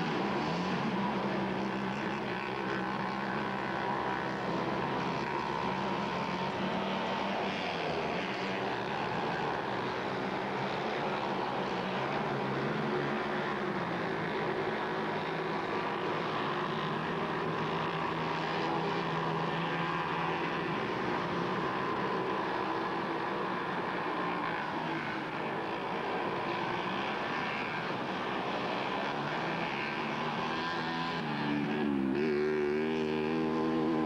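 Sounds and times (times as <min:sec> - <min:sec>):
mini bike engines racing: 0:00.0 - 0:34.0.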